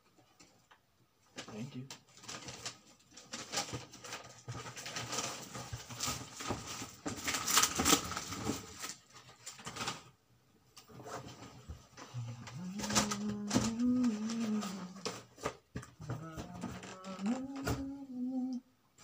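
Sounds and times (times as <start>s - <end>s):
plastic and paper bags rustling: 1.3s - 10.2s, 10.9s - 18.5s.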